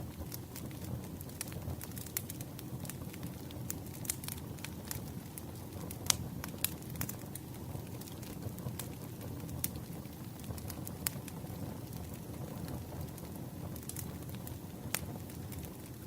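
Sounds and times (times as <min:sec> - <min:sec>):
campfire crackling and popping: 0:00.0 - 0:16.0
low steady fire rumble: 0:00.0 - 0:16.0.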